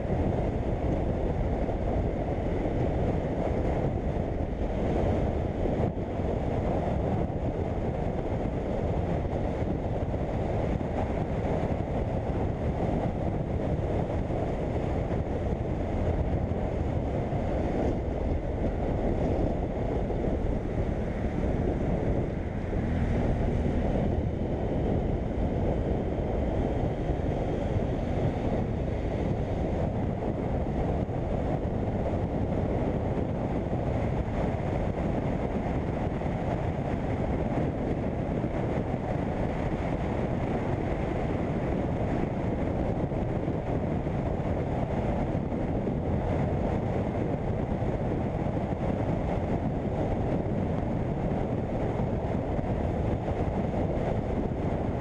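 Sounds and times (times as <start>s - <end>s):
motorcycle running: 0.0s - 55.0s
wind rushing over microphone: 0.0s - 55.0s.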